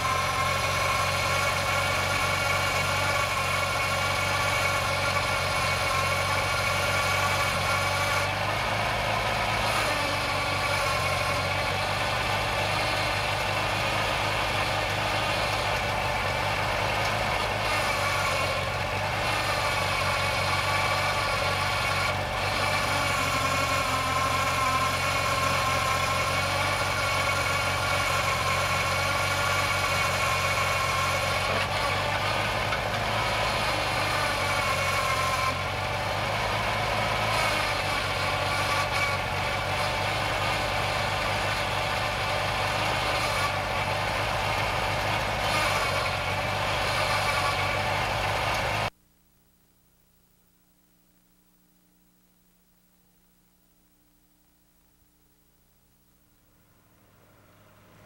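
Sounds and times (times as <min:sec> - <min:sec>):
backhoe digging and dumping soil: 0:00.0 - 0:48.9
backhoe engine running: 0:00.0 - 0:49.0.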